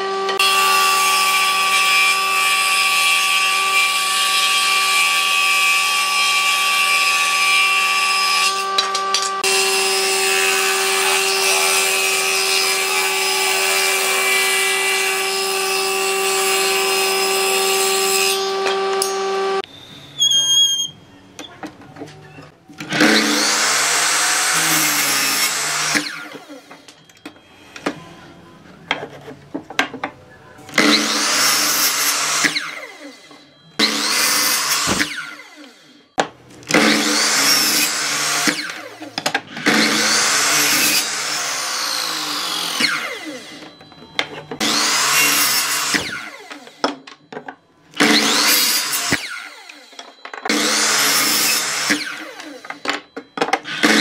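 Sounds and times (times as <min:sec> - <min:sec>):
power tool working wood: 0:00.0 - 0:19.6, 0:22.8 - 0:26.9, 0:30.7 - 0:36.0, 0:36.6 - 0:43.8, 0:44.6 - 0:46.9, 0:48.0 - 0:53.0, 0:53.6 - 0:54.0.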